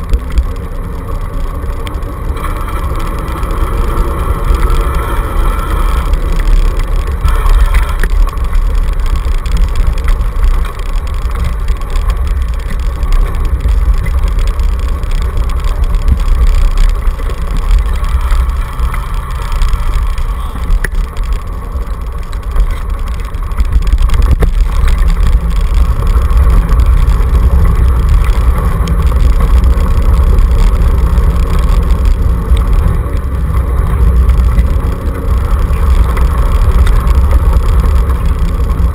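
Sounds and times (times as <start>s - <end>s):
scooter rattling over gravel: 0.0s - 38.9s.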